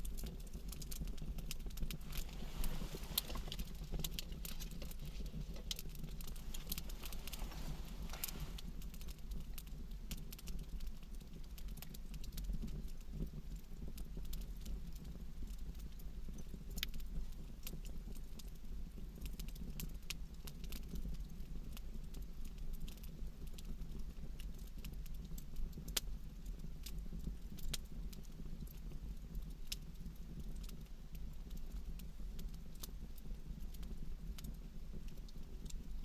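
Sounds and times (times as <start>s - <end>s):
campfire crackling and popping: 0.0s - 36.0s
low fire rumble: 0.0s - 36.0s.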